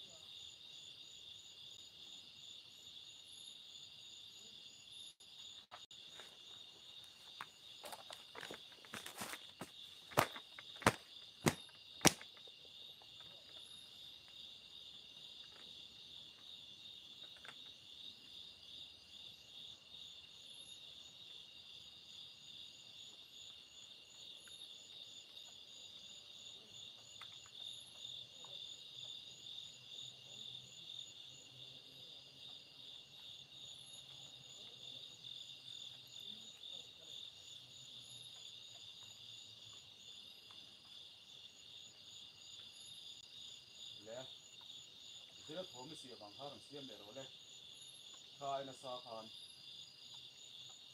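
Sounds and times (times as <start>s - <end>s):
night insects chirring: 0.0s - 50.9s.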